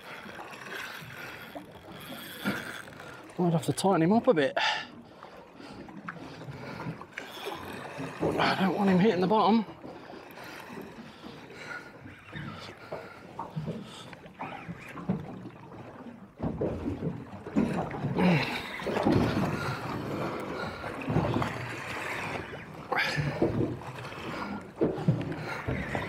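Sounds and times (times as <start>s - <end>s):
waves slapping against boat hull: 0.0s - 26.0s.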